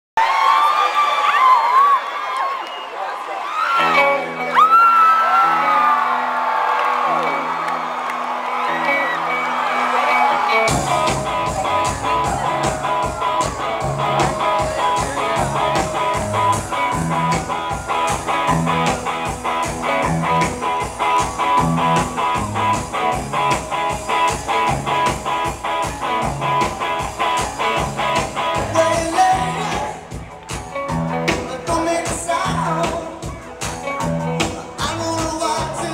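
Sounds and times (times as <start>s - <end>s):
live rock band: 3.2s - 35.9s.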